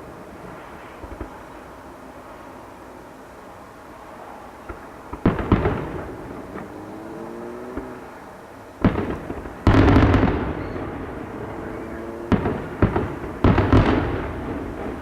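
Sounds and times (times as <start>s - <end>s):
fireworks exploding: 0.0s - 3.0s, 4.0s - 15.0s.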